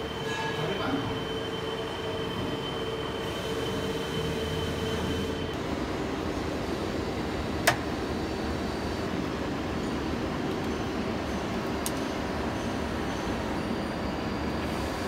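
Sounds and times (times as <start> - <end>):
machine-shop hum: 0.0 - 15.0.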